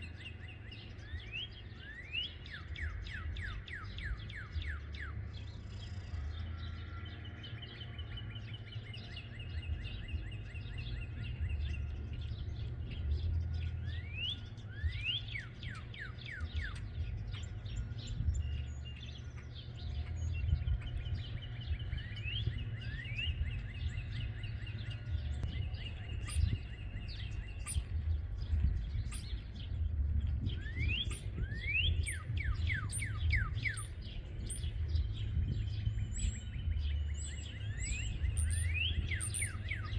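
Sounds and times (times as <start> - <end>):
small birds chirping: 0.0 - 39.9
wind rumble on microphone: 0.0 - 39.9.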